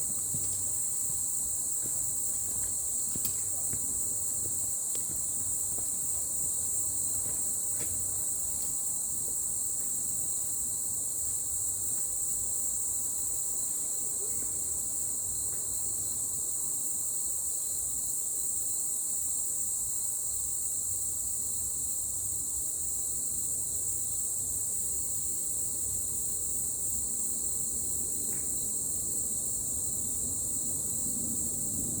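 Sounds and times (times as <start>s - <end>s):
shrill insect chorus: 0.0s - 32.0s.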